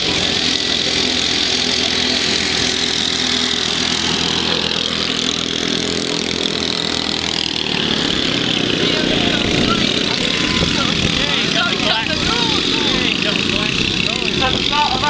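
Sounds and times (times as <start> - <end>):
lawnmower engines running: 0.0 - 15.0.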